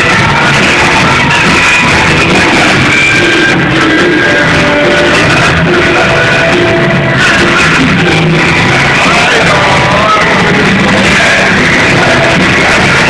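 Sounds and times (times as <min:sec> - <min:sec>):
live rock music: 0:00.0 - 0:13.0.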